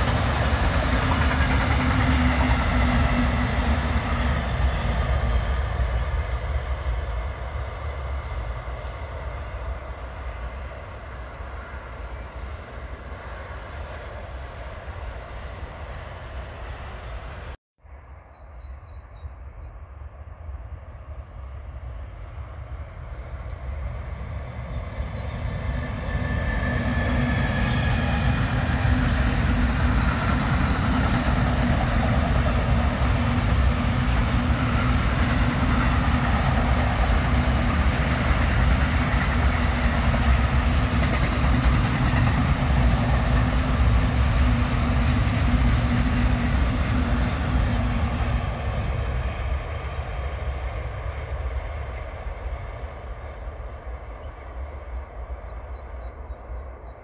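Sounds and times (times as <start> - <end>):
freight train wheels rumbling: 0.0 - 17.6, 18.8 - 57.0.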